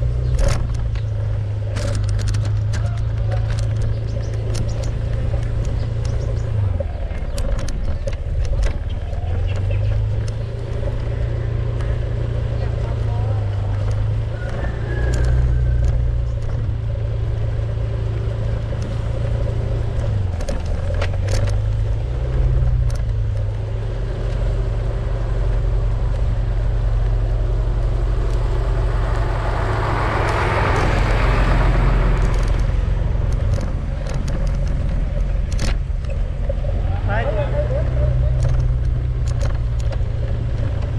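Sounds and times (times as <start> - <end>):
vehicle engine humming: 0.0 - 40.9.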